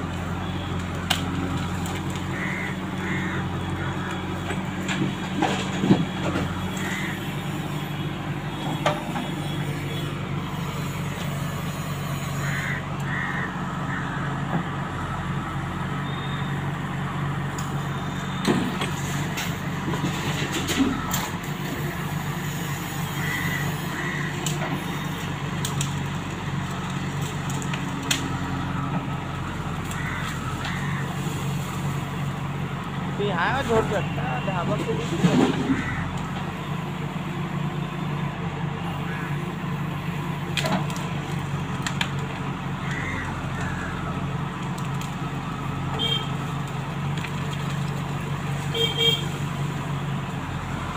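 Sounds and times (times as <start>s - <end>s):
falling earth: 0.0s - 7.5s, 12.9s - 50.9s
diesel engine under load: 0.0s - 50.9s.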